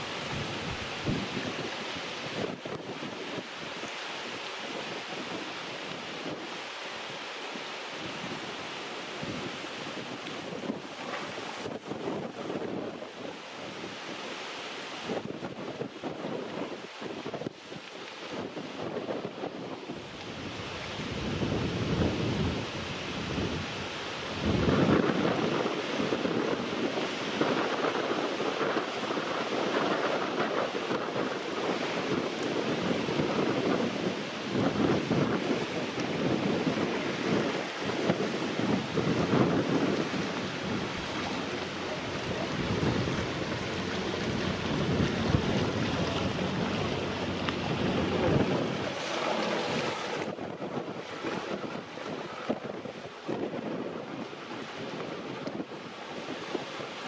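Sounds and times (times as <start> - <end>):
strong wind buffeting microphone: 0.0 - 7.2, 8.0 - 57.0.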